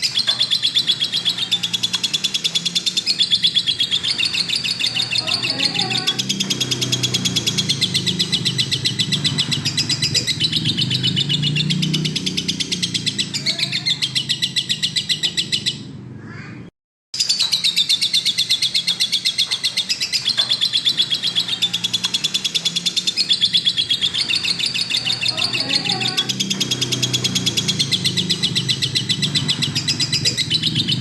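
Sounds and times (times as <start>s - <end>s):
lovebird chattering: 0.0s - 15.8s, 17.2s - 31.0s.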